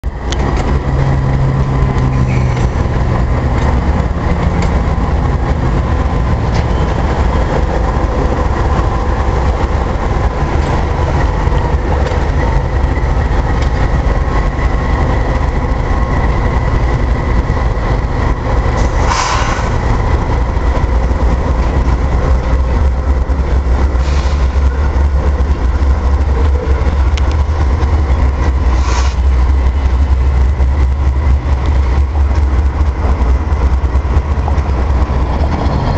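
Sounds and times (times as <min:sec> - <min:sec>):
diesel locomotive engine drone: 0:00.0 - 0:35.9.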